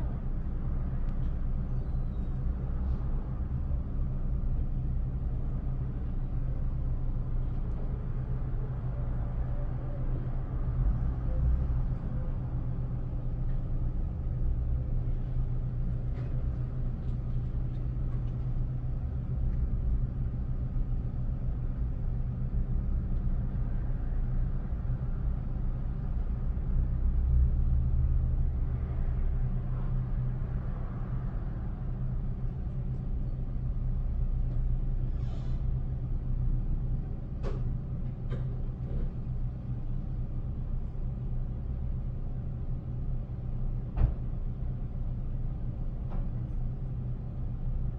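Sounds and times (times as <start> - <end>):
low engine rumble: 0.0 - 47.9.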